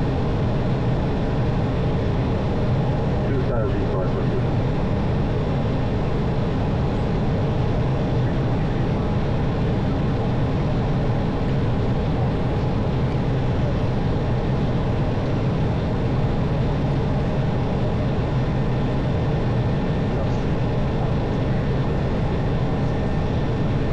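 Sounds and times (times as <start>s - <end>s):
airliner engine drone: 0.0s - 23.9s.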